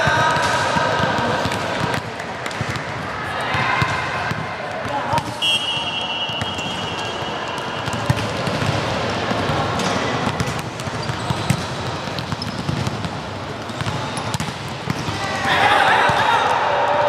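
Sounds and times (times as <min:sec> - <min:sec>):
gymnasium hall noise: 0:00.0 - 0:17.0.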